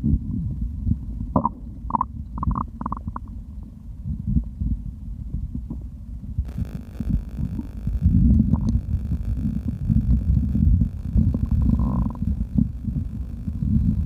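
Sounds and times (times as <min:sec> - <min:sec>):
stomach rumbling and gurgling: 0:00.0 - 0:14.0.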